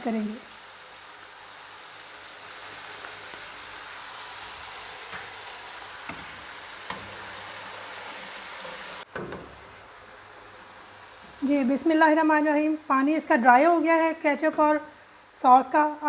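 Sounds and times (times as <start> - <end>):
sauce sizzling in hot oil: 0.0 - 16.0.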